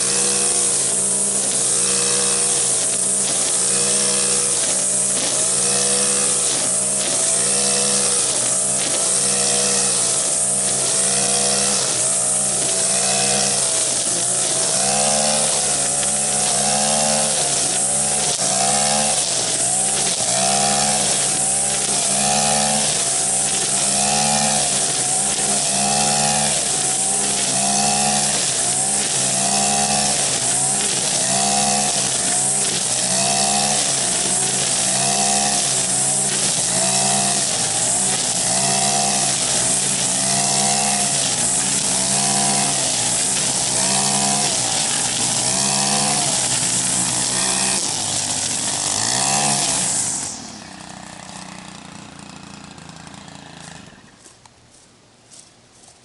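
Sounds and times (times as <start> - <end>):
string trimmer engine cutting grass: 0.0 - 56.0.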